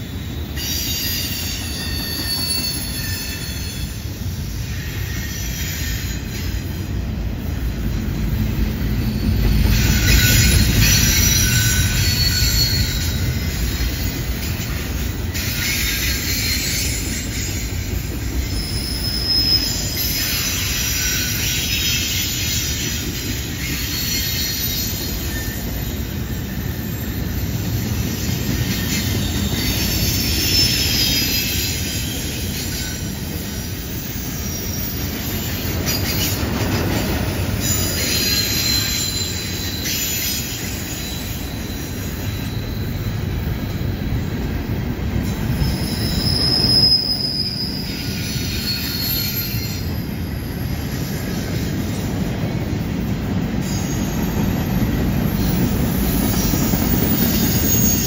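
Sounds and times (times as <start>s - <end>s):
steel wheels rumbling on rail: 0.0s - 58.0s
high-pitched wheel squeal: 0.1s - 7.0s, 8.8s - 52.0s, 53.6s - 58.0s.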